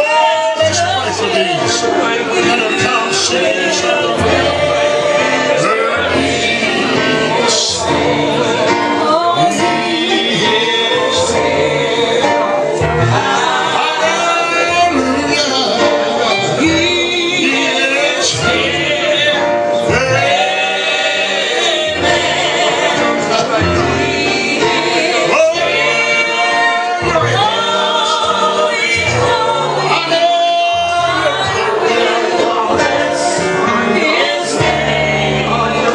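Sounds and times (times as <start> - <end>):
instrumental accompaniment: 0.0 - 35.9
men and women singing: 0.0 - 35.9.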